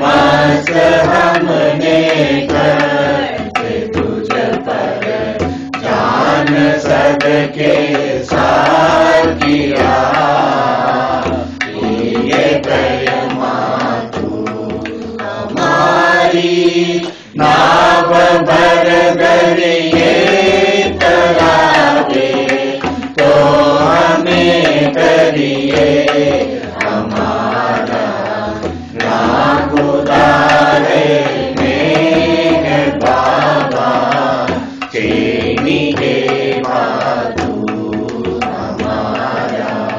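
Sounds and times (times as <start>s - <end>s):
voices singing a hymn: 0.0s - 39.9s.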